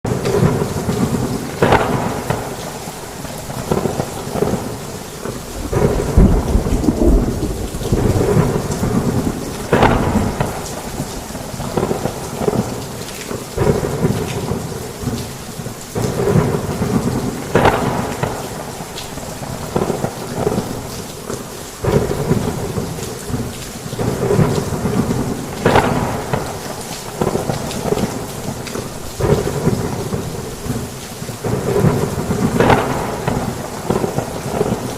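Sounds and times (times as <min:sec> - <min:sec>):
heavy rain on a roof: 0:00.0 - 0:34.9
rolling thunder: 0:00.1 - 0:12.9, 0:16.0 - 0:20.9, 0:21.8 - 0:34.9.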